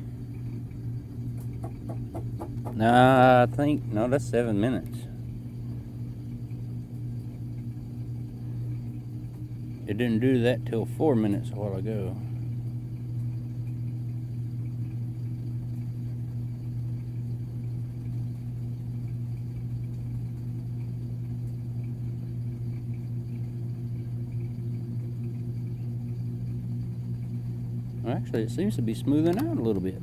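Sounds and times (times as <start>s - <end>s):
washing machine drum spinning: 0.0s - 30.0s.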